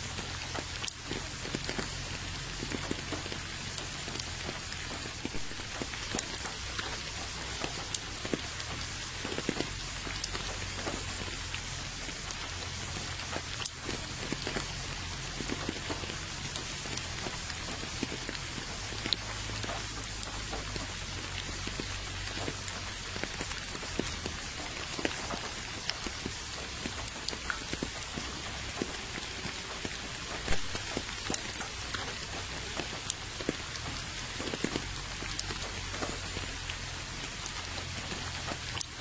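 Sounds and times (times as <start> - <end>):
rain pattering on a puddle: 0.0 - 39.0.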